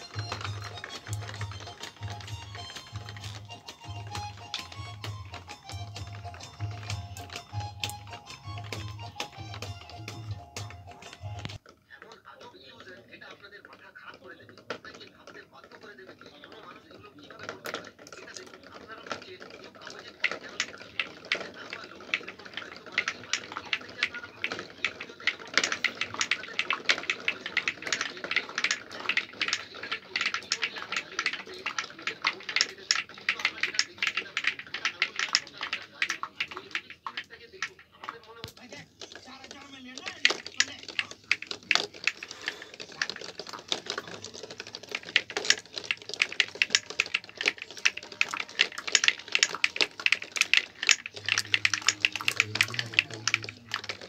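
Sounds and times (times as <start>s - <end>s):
marbles clacking on wooden run: 0.0s - 54.0s.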